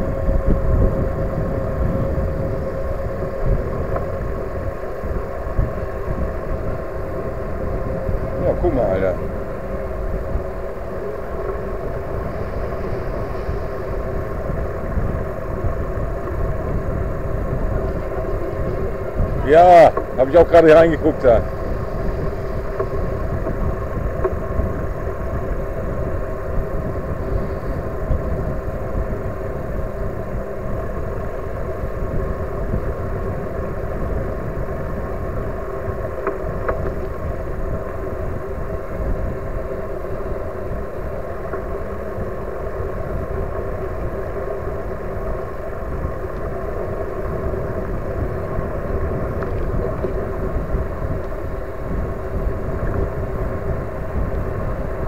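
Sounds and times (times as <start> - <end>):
faint steady whine: 0.0 - 55.0
wind and tyre rumble: 0.0 - 55.0.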